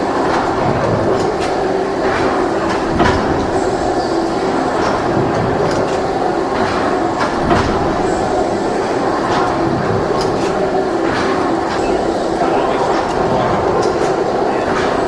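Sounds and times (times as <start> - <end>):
machine running noise: 0.0 - 15.0.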